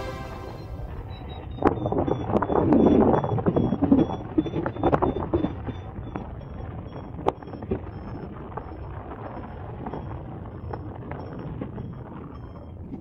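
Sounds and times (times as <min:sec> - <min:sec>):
wind buffeting microphone: 0:00.7 - 0:13.0.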